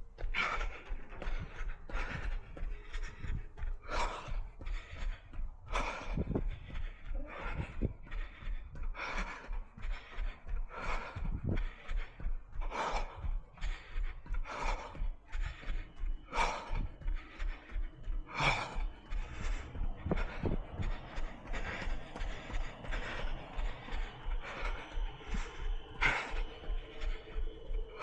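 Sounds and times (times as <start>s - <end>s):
runner breathing hard: 0.0s - 28.0s.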